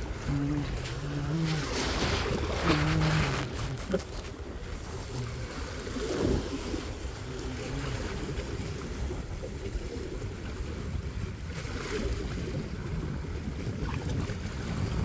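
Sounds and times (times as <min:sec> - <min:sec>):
sea water washing against rocks: 0:00.0 - 0:15.0
wind buffeting microphone: 0:00.0 - 0:15.0.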